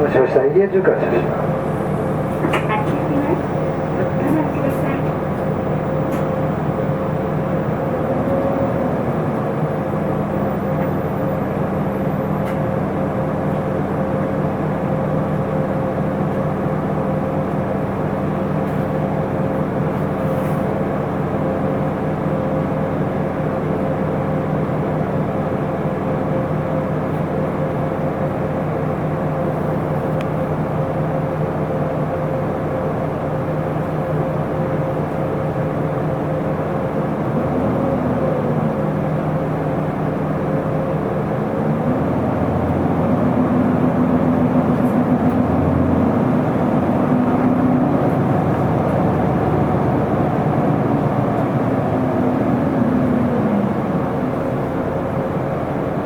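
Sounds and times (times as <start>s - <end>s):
bus engine droning: 0.0s - 56.0s.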